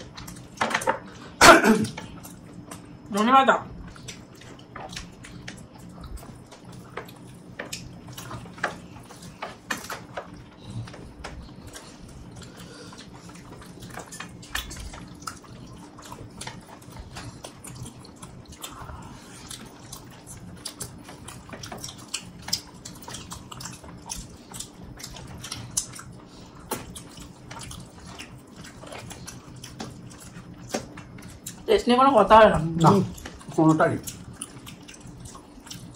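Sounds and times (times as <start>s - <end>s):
people chewing with open mouths: 0.0s - 3.1s, 3.7s - 31.7s, 32.5s - 35.9s
faint steady hum: 0.0s - 35.9s.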